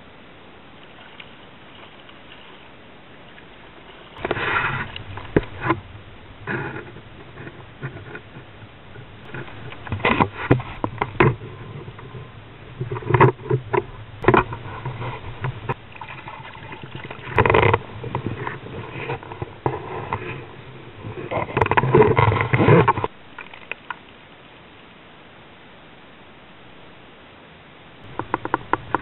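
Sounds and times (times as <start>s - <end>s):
fish being handled in a kayak: 0.7s - 24.9s, 28.1s - 29.0s.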